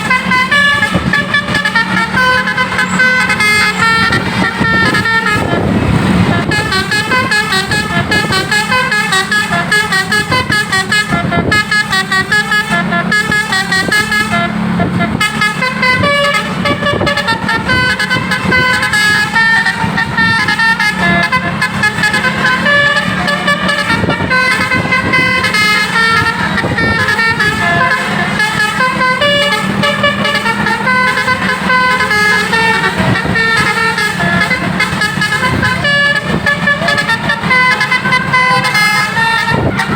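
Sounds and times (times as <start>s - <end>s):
bus horn playing a fast tune: 0.0s - 39.9s.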